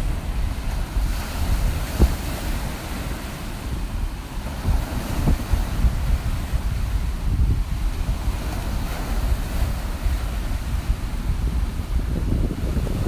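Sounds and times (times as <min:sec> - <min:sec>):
waves breaking on rocks: 0:00.0 - 0:13.0
wind rumbling on microphone: 0:00.0 - 0:13.0.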